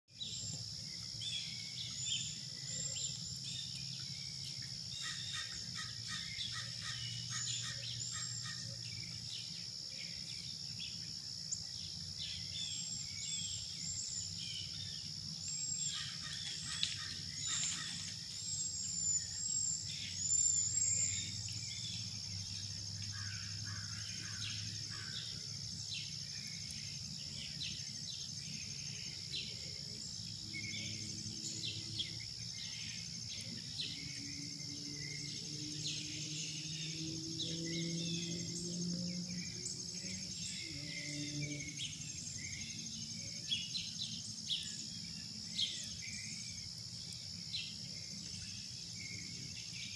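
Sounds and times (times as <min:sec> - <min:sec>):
songbirds chirping: 0:00.1 - 0:49.9
high-pitched insect drone: 0:01.2 - 0:47.7.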